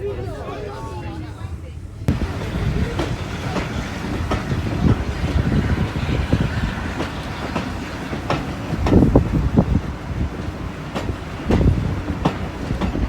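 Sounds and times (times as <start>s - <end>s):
train carriage rumbling: 0.0s - 13.0s
wheels clicking over rail joints: 2.1s - 13.0s.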